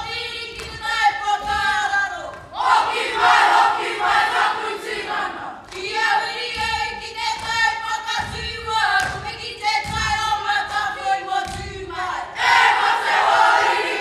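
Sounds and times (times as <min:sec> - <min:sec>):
group singing in unison: 0:00.0 - 0:09.3, 0:10.0 - 0:14.0.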